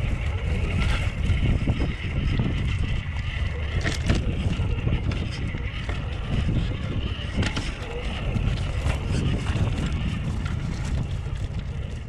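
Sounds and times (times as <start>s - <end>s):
toy car rumbling: 0.0s - 12.0s
wind buffeting microphone: 0.0s - 12.0s.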